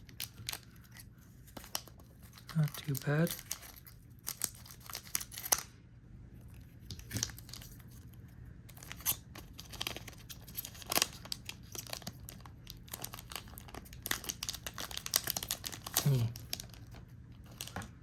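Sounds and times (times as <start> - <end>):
foil wrapper crinkling: 0.0 - 5.7, 8.7 - 17.9.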